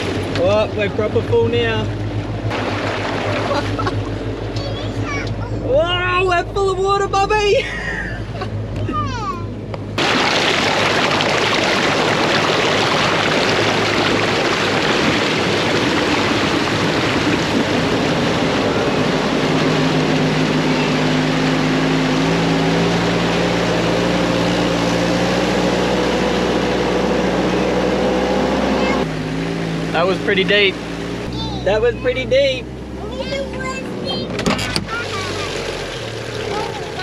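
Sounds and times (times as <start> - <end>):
water rushing: 0.0 - 7.6, 8.9 - 37.0
vehicle engine: 0.0 - 37.0.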